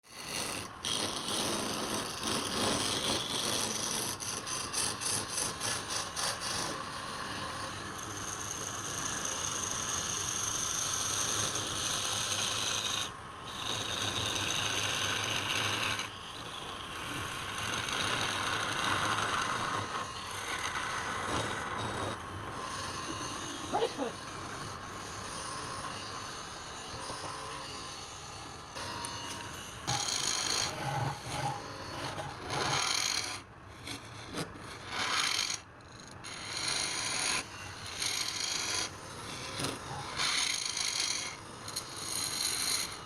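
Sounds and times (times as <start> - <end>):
lathe tool shaving wood: 0.1 - 43.0.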